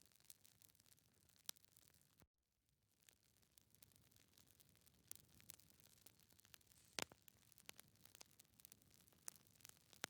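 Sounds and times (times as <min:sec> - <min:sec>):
wood fire crackling: 0:00.0 - 0:02.2, 0:03.0 - 0:10.0.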